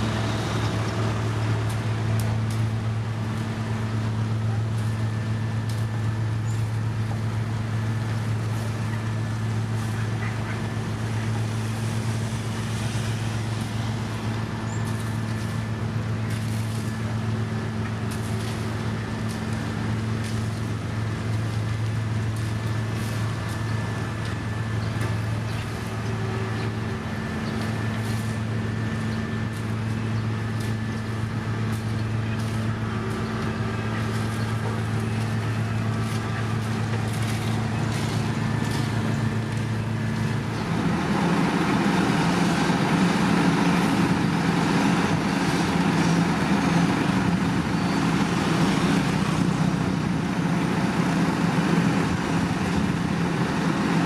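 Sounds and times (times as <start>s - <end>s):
diesel engine humming: 0.0s - 54.0s
rough engine sound: 0.0s - 54.0s.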